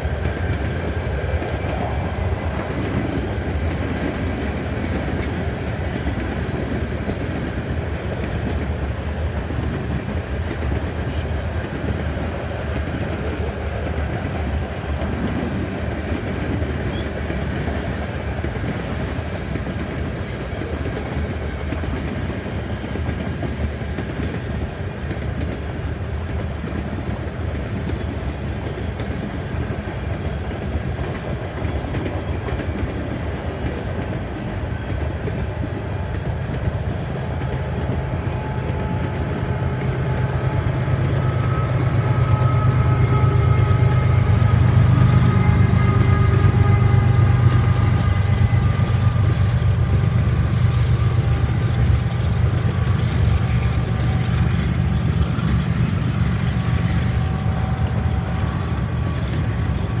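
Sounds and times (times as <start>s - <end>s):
locomotive engine drone: 0.0s - 19.6s, 27.3s - 60.0s
freight cars rumbling on rails: 0.0s - 60.0s.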